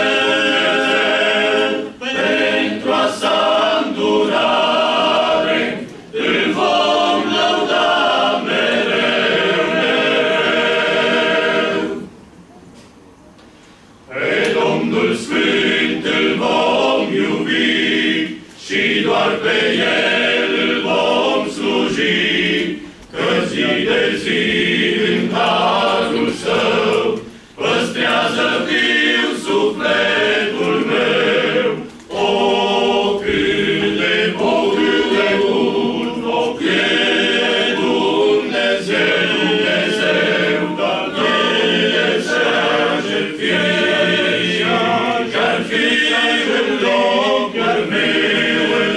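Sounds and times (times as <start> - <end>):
men's choir singing a cappella: 0.0 - 12.2, 14.1 - 48.9.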